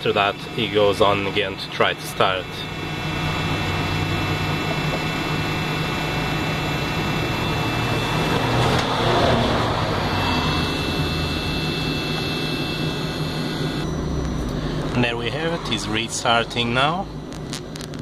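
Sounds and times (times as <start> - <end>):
heater fan whirring: 0.0 - 18.0.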